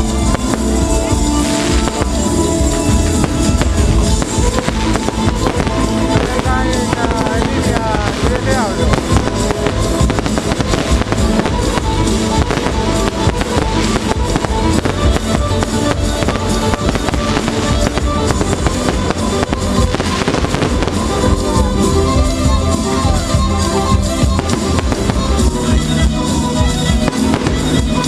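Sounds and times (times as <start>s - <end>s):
fireworks bursting and crackling: 0.0s - 28.0s
loud music with drums: 0.0s - 28.0s.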